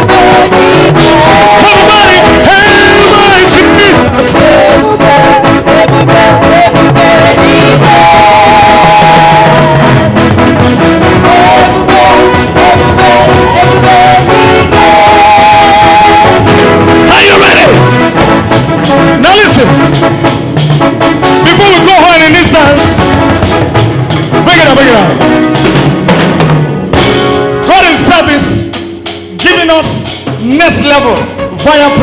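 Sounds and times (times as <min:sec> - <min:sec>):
live gospel band music: 0:00.0 - 0:32.0
steady drum beat: 0:00.0 - 0:32.0.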